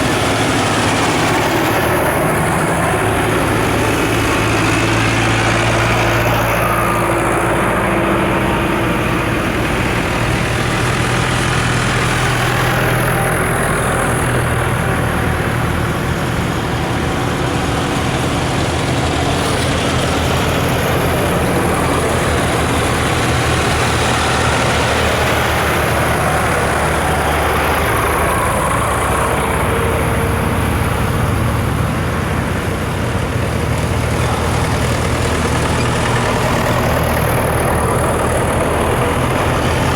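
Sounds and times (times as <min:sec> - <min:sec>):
tractor engines passing: 0:00.0 - 0:39.9.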